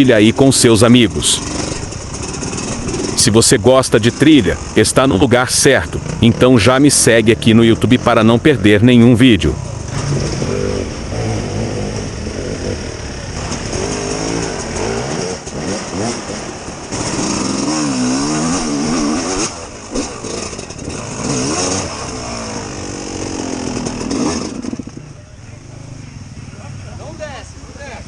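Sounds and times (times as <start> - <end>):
vehicle engine revving: 0.0 - 26.9.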